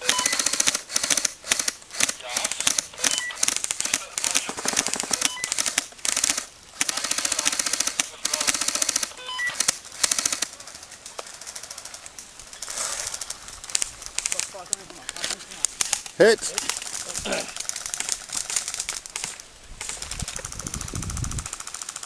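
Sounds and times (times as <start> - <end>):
airsoft guns firing bursts: 0.0 - 14.7, 15.7 - 22.0.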